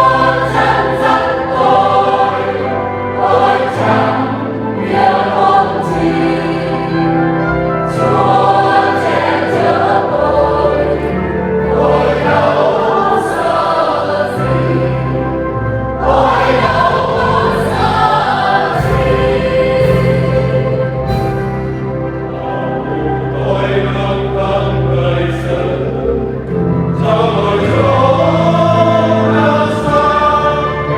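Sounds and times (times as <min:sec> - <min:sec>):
choir singing a hymn: 0:00.0 - 0:30.9
low held accompaniment notes: 0:00.0 - 0:30.9.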